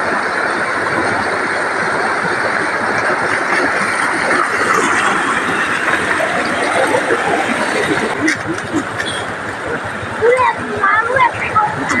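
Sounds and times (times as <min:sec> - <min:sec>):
floodwater roaring over overflow: 0:00.0 - 0:12.0.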